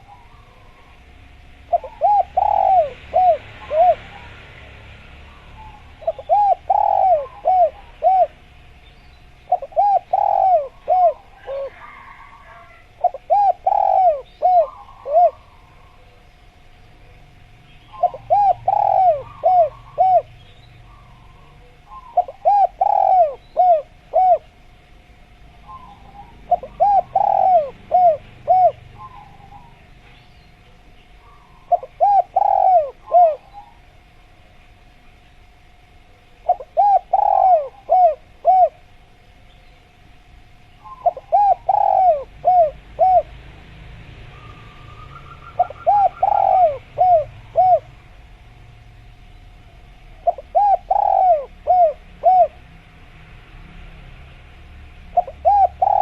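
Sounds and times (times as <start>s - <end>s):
dove cooing: 0.0s - 8.6s, 9.4s - 16.3s, 17.0s - 24.8s, 25.6s - 34.1s, 36.0s - 39.2s, 40.8s - 43.5s, 44.3s - 48.5s, 49.6s - 52.7s, 55.1s - 56.0s.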